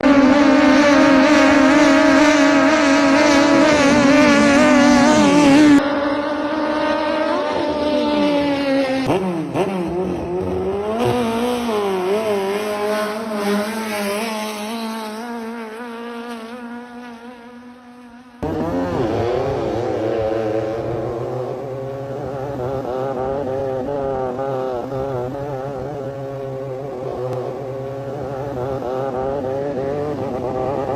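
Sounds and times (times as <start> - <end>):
vehicle engines running hard: 0.0 - 15.8, 18.3 - 30.9.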